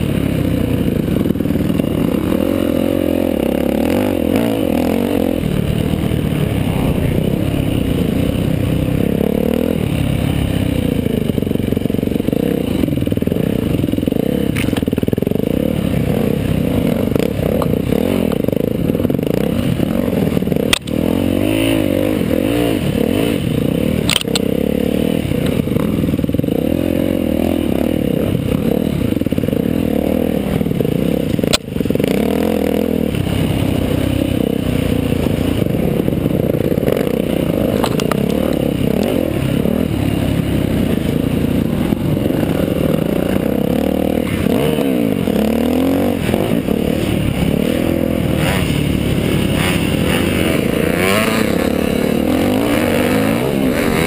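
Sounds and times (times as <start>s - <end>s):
bike rattling and clatter: 0.0s - 54.0s
dirt bike engine revving: 0.0s - 54.0s.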